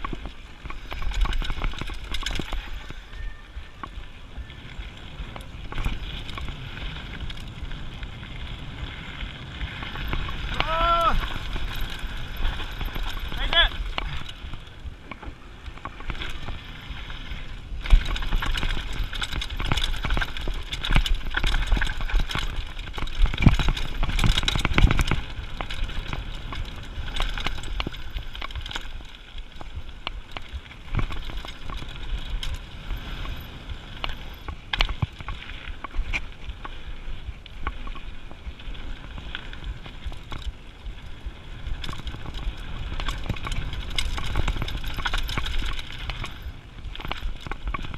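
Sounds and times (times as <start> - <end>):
tyres crunching over gravel: 0.0 - 36.8, 37.8 - 47.9
bike rattling over bumps: 0.0 - 47.9
wind rumble on microphone: 0.0 - 47.9.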